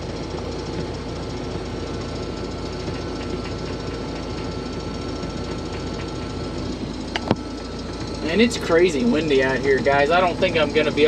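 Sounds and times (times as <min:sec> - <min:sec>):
combine harvester droning: 0:00.0 - 0:11.0
faint steady whine: 0:00.0 - 0:11.0.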